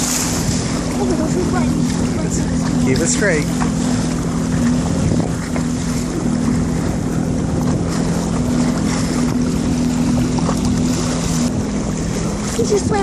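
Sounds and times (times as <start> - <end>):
water splashing against hull: 0.0 - 13.0
watercraft engine idling: 0.0 - 13.0
wind on microphone: 0.0 - 13.0.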